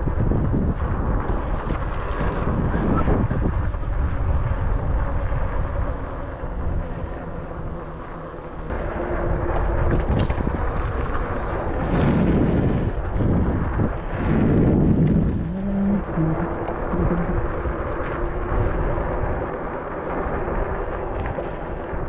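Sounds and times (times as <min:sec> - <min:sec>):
electric bike rumble: 0:00.0 - 0:22.0
steady hum: 0:00.0 - 0:22.0
wind buffeting microphone: 0:00.0 - 0:22.0.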